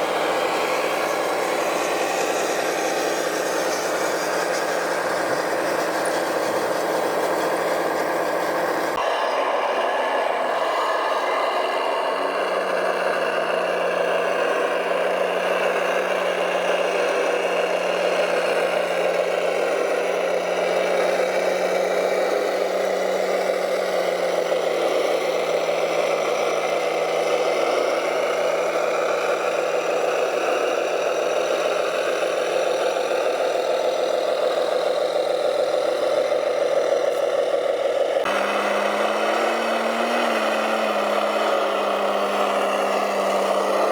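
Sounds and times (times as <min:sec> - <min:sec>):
radio-controlled truck droning: 0:00.0 - 0:43.9.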